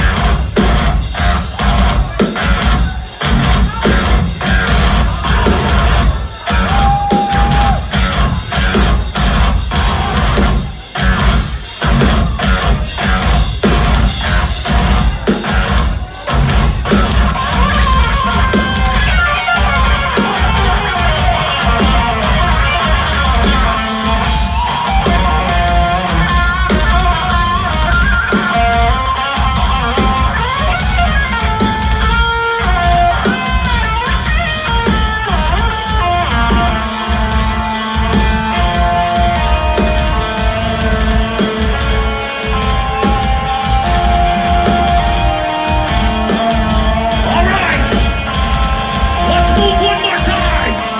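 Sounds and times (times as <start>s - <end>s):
heavy drums: 0.0s - 50.9s
melodic guitar line: 0.0s - 50.9s
metal band playing live: 0.0s - 50.9s.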